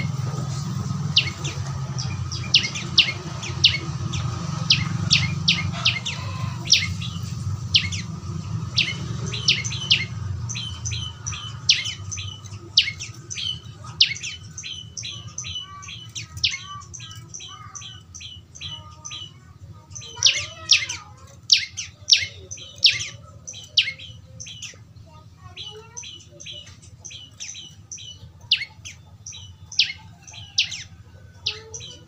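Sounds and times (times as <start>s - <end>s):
bird chirping: 0.0s - 32.0s.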